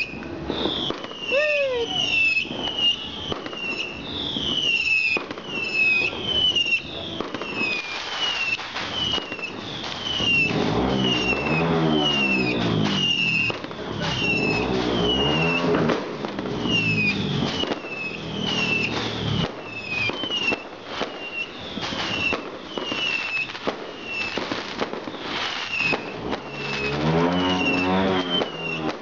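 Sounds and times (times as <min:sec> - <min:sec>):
falling firework whistle: 0:00.0 - 0:29.0
fireworks cracking and banging: 0:00.0 - 0:29.0.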